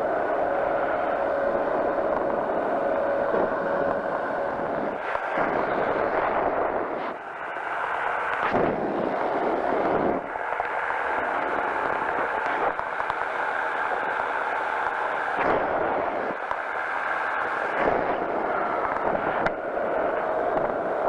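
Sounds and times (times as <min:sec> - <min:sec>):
engine and propeller droning: 0:00.0 - 0:21.0.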